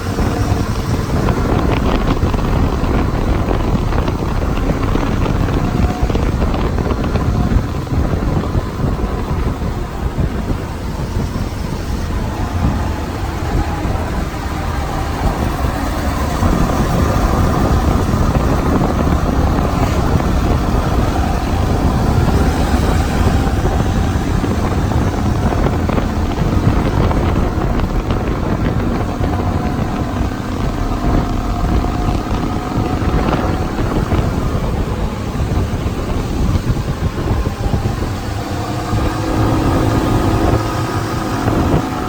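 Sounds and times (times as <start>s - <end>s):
motorcycle engine drone: 0.0s - 42.0s
wind rush on microphone: 0.0s - 42.0s.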